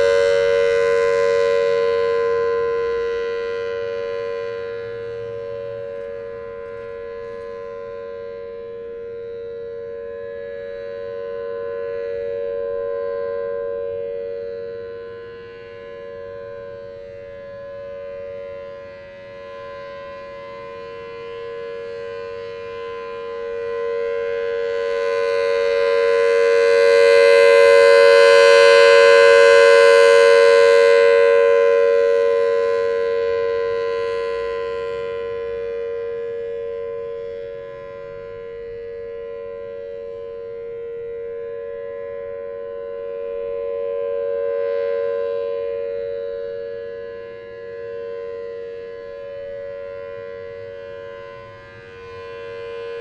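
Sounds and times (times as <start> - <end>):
warning siren steady tone: 0.0 - 53.0.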